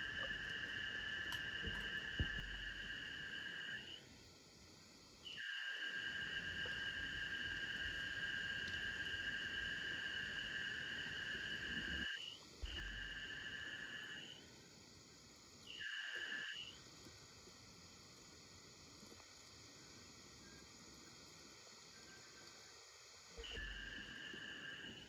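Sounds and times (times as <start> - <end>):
forest insects droning: 0.0 - 25.0.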